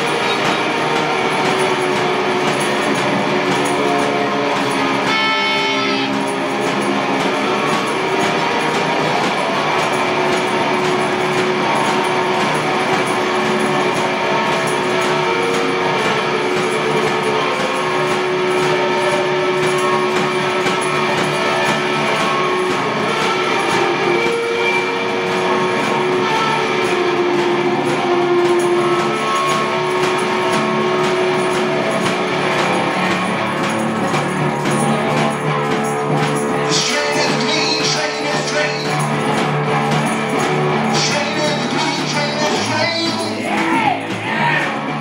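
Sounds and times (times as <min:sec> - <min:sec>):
droning electric guitar: 0:00.0 - 0:45.0.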